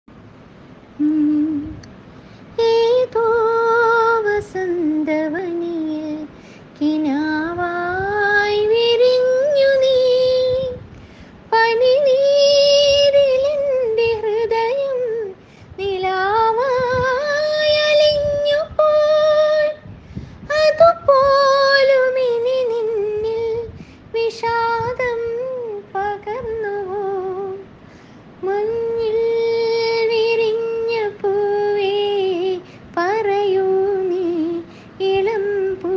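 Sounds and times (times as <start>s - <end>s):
woman singing with vibrato: 1.0s - 1.9s, 2.6s - 10.9s, 11.5s - 27.8s, 28.4s - 35.9s.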